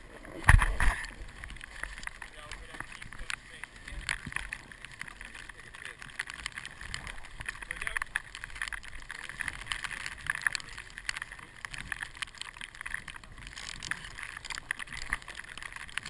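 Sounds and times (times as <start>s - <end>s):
ratchet straps clicking: 1.7s - 16.0s.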